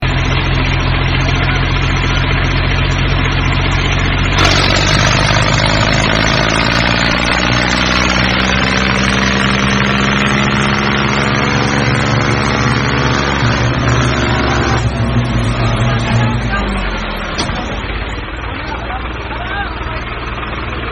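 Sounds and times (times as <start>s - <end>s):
construction vehicle engine running: 0.0s - 20.9s.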